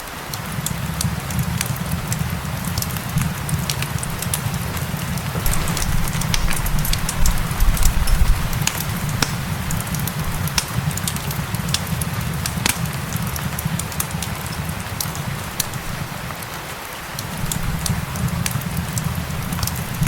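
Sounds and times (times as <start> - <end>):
rain hissing: 0.0 - 20.0
fireplace crackling: 0.1 - 20.0.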